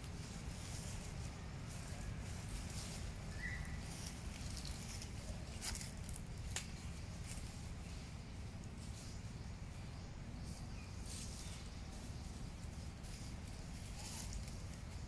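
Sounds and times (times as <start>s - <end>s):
dry leaves crackling: 0.0s - 15.0s.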